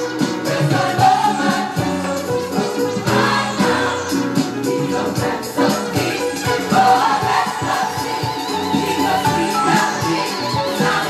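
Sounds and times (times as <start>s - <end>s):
drum kit steady beat: 0.0s - 11.0s
gospel choir singing: 0.0s - 11.0s.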